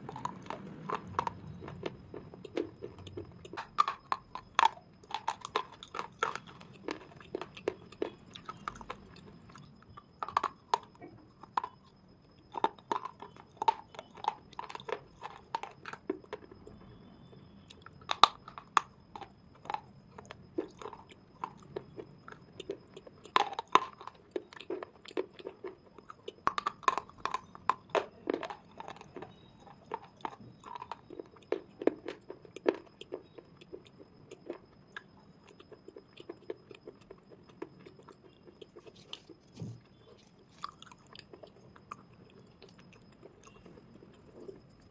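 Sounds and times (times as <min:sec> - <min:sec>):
chewing crunchy pieces: 0:00.0 - 0:44.9.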